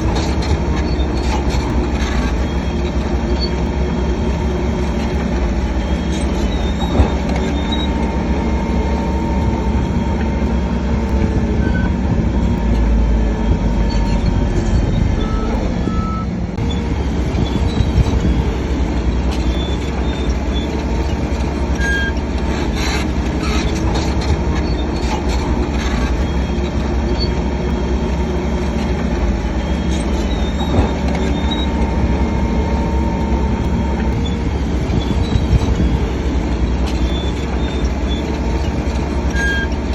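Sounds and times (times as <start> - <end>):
diesel engine under load: 0.0 - 39.9
high squeals and scrapes: 0.0 - 39.9
steel tracks clanking and squealing: 0.0 - 39.9.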